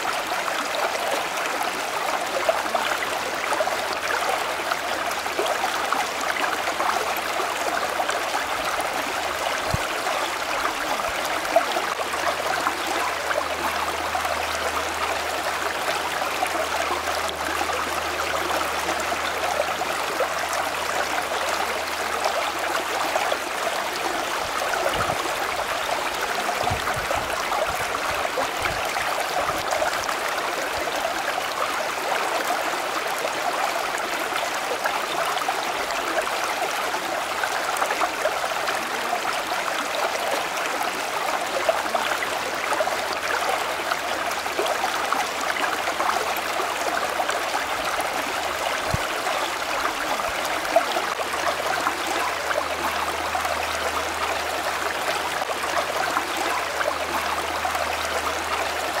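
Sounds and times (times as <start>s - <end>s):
stream of running water: 0.0s - 59.0s.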